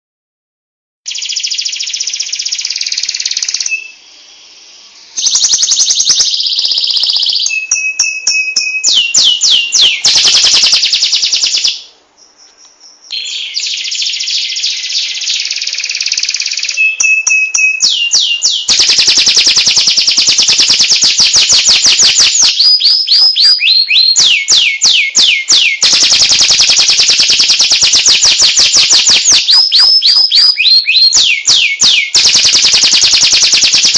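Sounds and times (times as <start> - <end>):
canary singing trills: 1.1 - 33.9.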